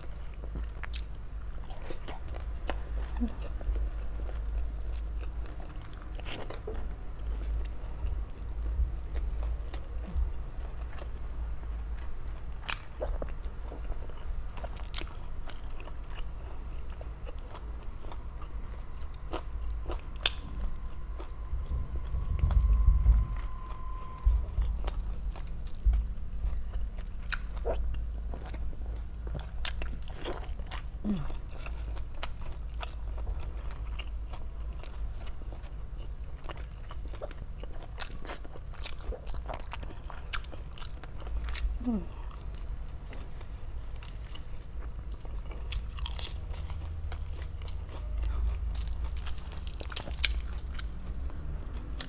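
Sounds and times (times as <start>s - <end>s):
chewing and crunching: 0.0s - 52.0s.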